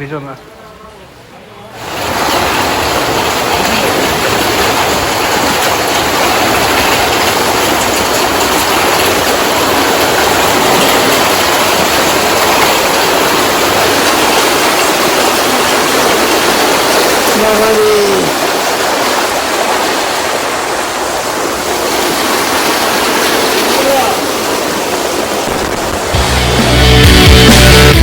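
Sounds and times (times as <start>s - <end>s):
heavy rain rushing: 0.0s - 28.0s.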